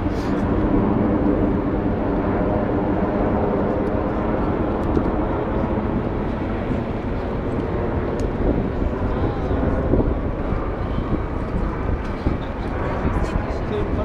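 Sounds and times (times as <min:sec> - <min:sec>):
jet aircraft engines: 0:00.0 - 0:14.0.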